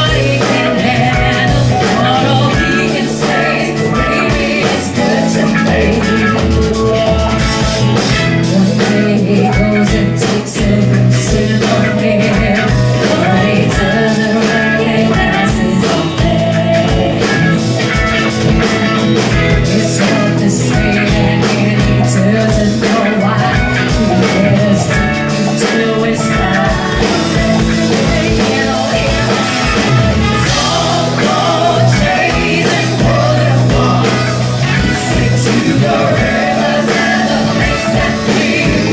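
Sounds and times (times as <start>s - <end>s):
drums: 0.0s - 38.9s
guitar: 0.0s - 38.9s
rock song with singing: 0.0s - 38.9s.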